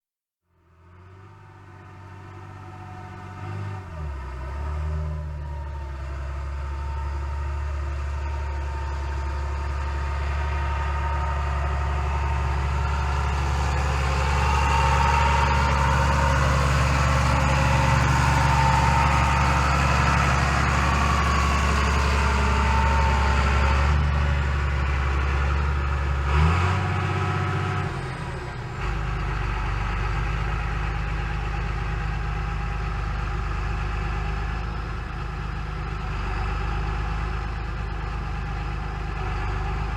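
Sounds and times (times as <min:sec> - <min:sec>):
tractor engine running: 0:01.6 - 0:39.9
engine knock: 0:06.4 - 0:39.9.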